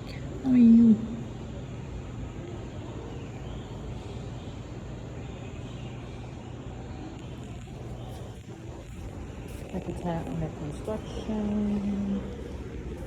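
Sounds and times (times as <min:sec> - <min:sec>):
background noise: 0:00.0 - 0:13.0
steady low hum: 0:00.0 - 0:13.0.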